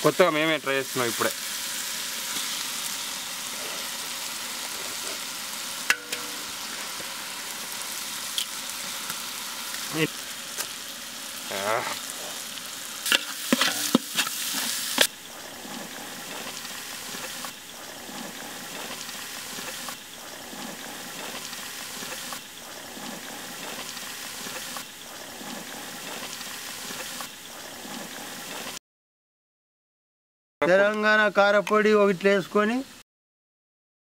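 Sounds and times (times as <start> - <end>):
eggs sizzling in a pot: 0.0 - 28.8.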